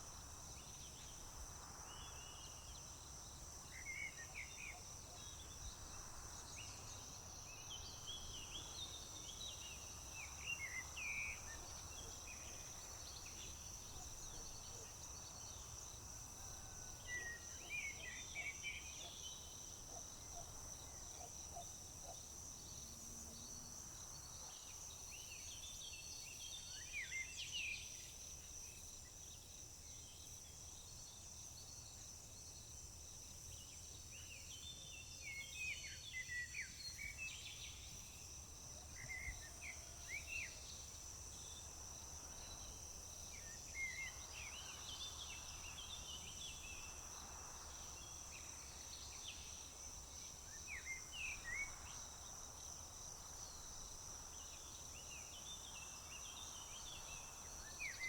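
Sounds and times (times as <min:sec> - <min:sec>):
crickets trilling: 0:00.1 - 0:58.0
songbird singing: 0:03.7 - 0:32.8, 0:38.8 - 0:58.0.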